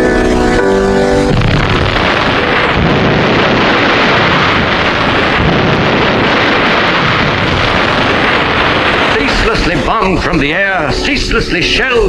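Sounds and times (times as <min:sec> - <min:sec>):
artillery guns and explosions: 0:01.2 - 0:11.4.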